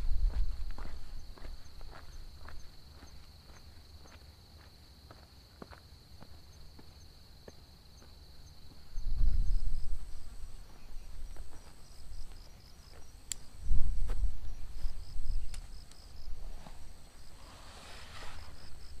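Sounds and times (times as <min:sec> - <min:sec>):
insects calling: 0:00.0 - 0:19.0.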